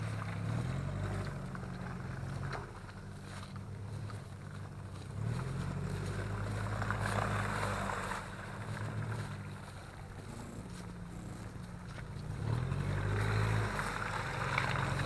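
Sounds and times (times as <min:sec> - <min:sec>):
vehicle engine revving under load: 0:00.0 - 0:15.0.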